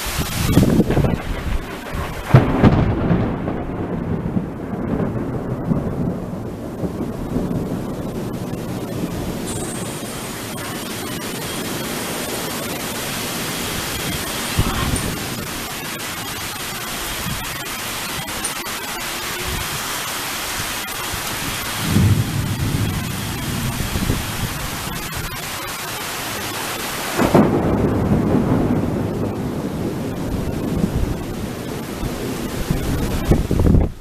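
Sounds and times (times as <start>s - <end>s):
rain hiss: 0.0s - 34.0s
thunder rumbling: 0.0s - 34.0s.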